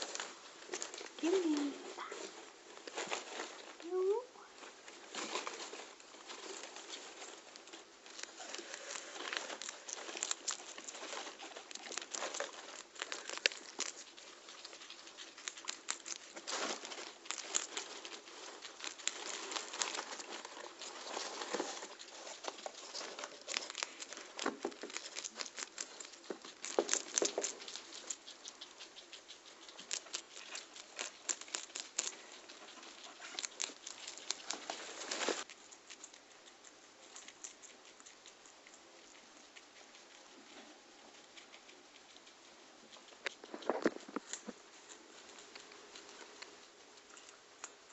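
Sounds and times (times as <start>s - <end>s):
guinea pigs crunching food: 0.0s - 47.9s.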